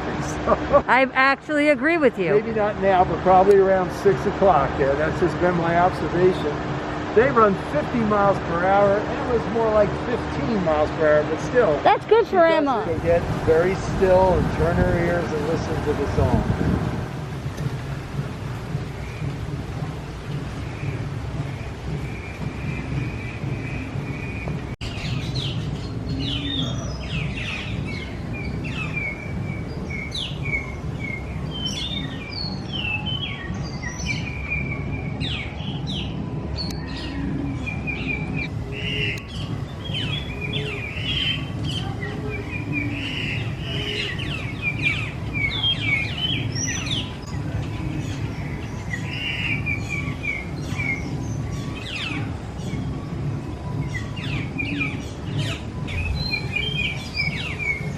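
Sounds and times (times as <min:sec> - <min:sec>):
low background rumble: 0:00.0 - 0:57.9
small birds chirping: 0:02.2 - 0:57.9.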